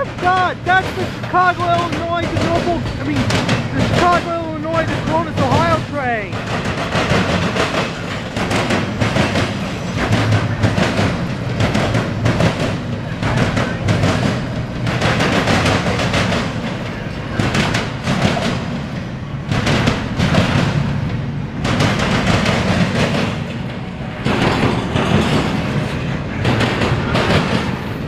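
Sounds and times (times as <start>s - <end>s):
freight train rumbling past: 0.0s - 28.0s
train wheels clattering: 0.0s - 28.0s.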